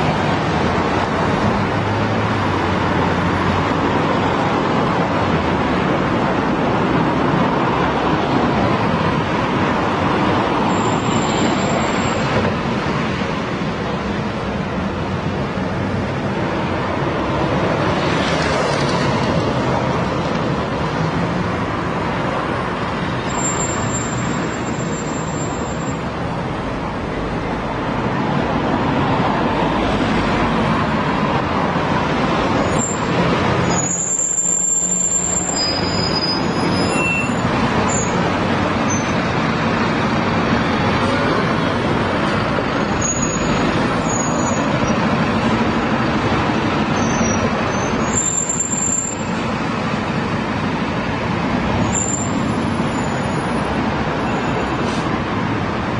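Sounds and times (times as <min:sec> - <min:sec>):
road traffic passing: 0:00.0 - 0:55.9.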